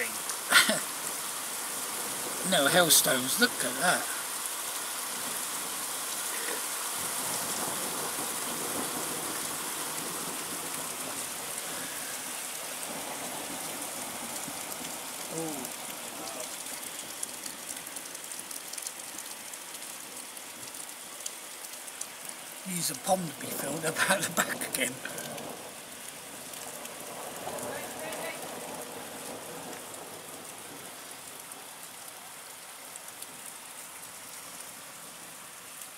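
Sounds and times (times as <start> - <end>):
heavy rain and hail: 0.0 - 35.9.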